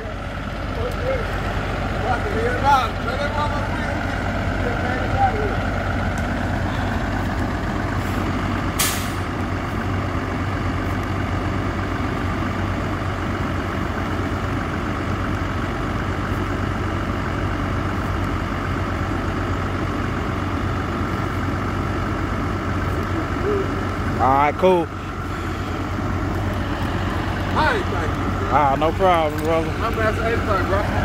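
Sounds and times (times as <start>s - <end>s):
heavy truck engine droning: 0.0s - 31.0s.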